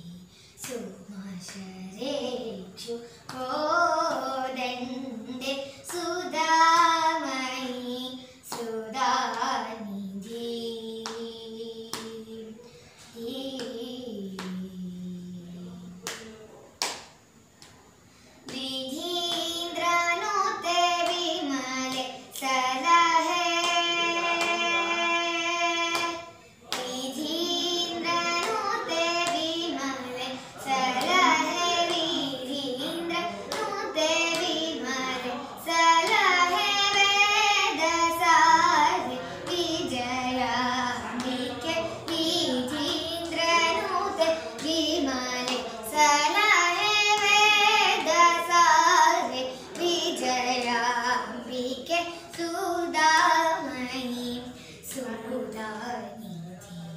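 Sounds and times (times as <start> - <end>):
children and women singing: 0.0 - 17.0, 18.4 - 56.9.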